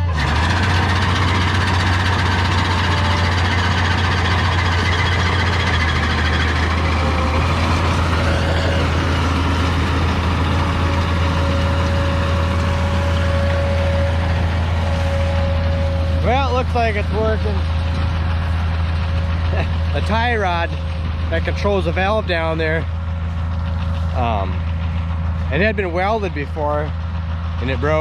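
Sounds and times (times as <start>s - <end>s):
swather engine running: 0.0s - 28.0s.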